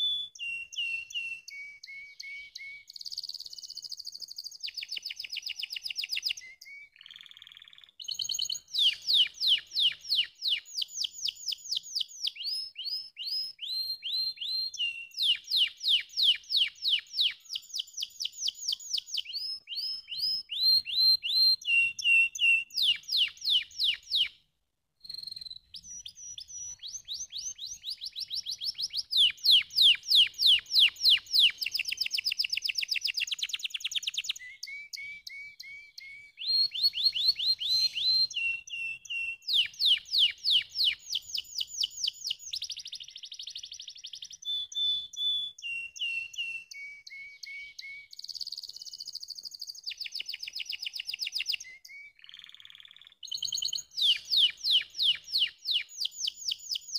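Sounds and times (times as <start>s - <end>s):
canary singing trills: 0.0s - 24.4s, 25.0s - 56.9s.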